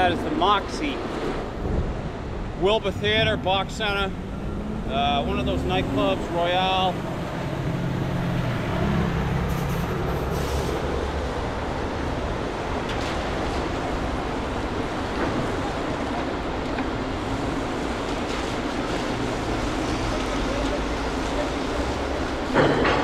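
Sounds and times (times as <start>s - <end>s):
truck engine rumble: 0.0s - 23.0s
cars driving past: 0.8s - 23.0s.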